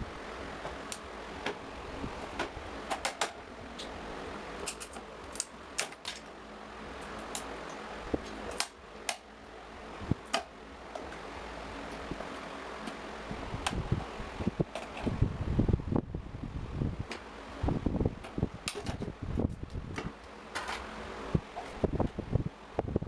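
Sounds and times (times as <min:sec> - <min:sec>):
steady hiss with low hum: 0:00.0 - 0:23.0.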